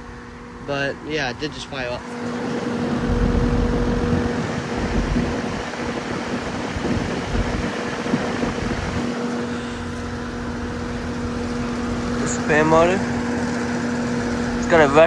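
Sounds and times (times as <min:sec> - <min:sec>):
compressor humming: 0:00.0 - 0:15.0
fan air rushing: 0:00.0 - 0:15.0.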